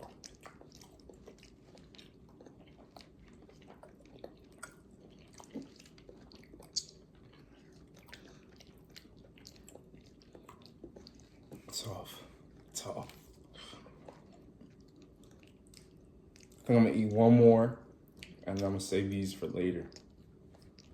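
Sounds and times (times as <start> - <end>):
person chewing food: 0.0 - 17.2, 17.8 - 20.9.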